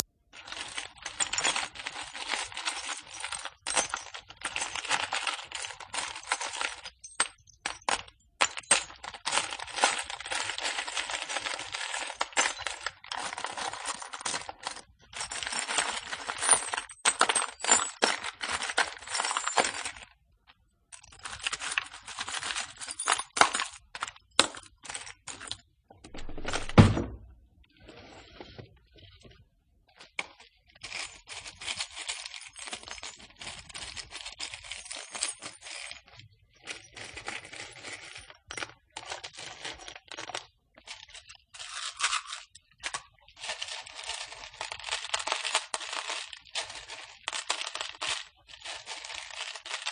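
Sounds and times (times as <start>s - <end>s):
screws and nails rattling: 0.4s - 20.1s, 21.0s - 25.6s, 30.0s - 49.9s.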